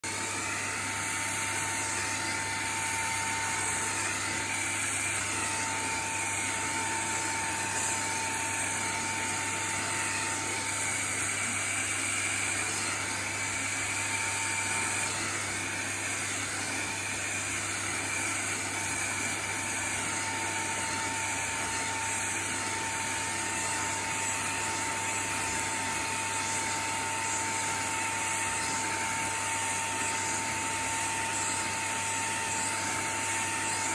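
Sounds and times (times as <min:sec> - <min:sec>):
handheld vacuum cleaner whining: 0:00.0 - 0:33.9.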